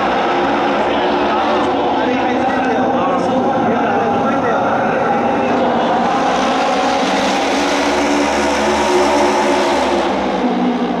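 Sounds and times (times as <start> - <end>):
racing motorcycle engines revving: 0.0 - 11.0.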